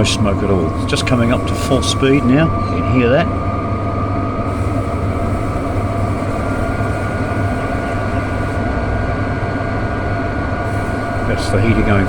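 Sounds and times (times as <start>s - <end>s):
diesel heater humming: 0.0s - 12.0s
thin whine rising in pitch: 0.0s - 12.0s.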